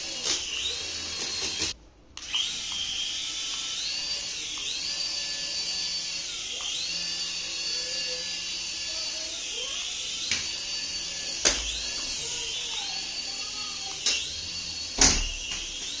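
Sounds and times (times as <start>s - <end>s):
toy electric motor whining: 0.0s - 16.0s.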